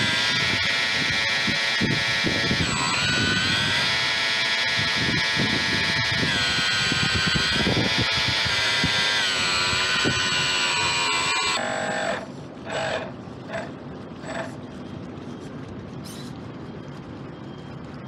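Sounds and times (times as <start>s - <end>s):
model boat motor whining: 0.0s - 14.5s.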